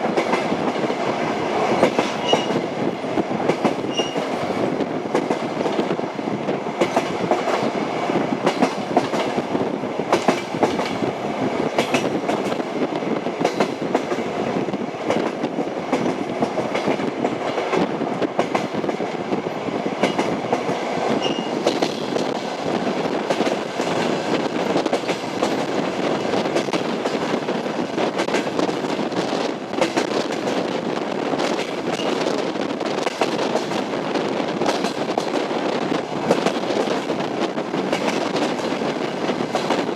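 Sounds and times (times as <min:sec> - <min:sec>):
train carriages rumbling: 0:00.0 - 0:39.9.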